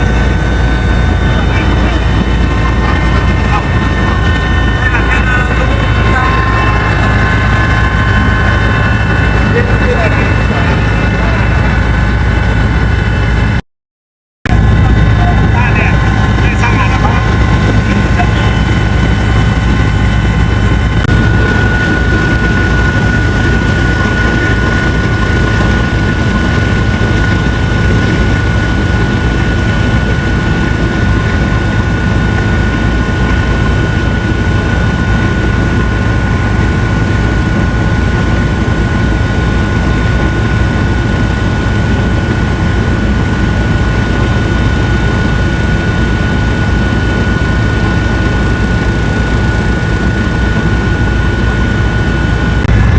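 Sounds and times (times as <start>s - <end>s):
helicopter engine and rotor noise: 0.0s - 13.6s, 14.5s - 52.9s
high whine: 0.0s - 13.6s, 14.5s - 52.9s.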